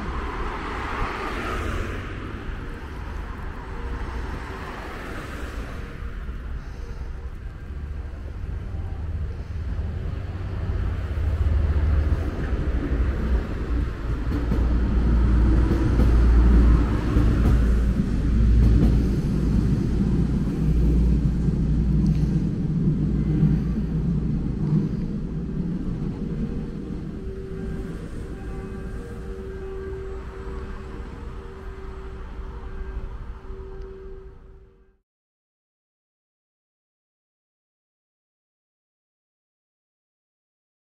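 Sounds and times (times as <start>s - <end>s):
train rumbling past: 0.0s - 35.0s.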